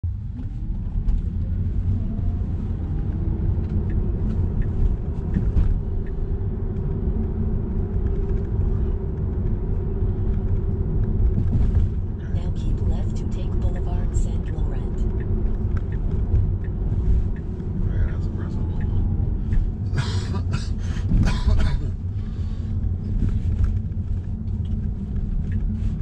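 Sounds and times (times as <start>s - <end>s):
road and tyre rumble: 0.0s - 26.0s.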